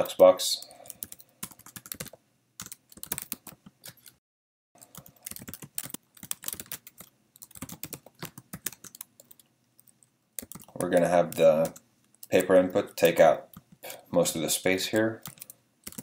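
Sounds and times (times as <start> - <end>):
keyboard typing clicks: 0.9 - 4.1, 4.8 - 13.8, 15.2 - 16.0.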